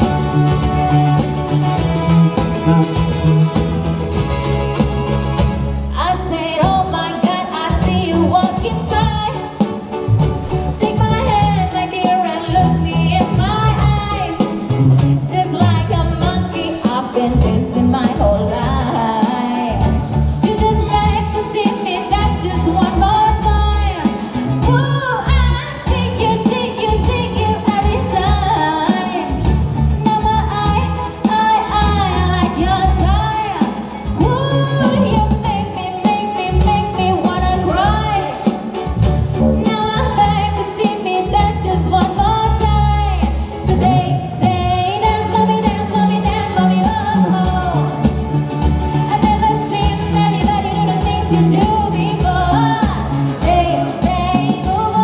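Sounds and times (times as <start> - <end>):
electric bass guitar: 0.0 - 55.0
ukulele: 0.0 - 55.0
woman singing: 5.9 - 9.8, 10.7 - 38.7, 39.5 - 55.0.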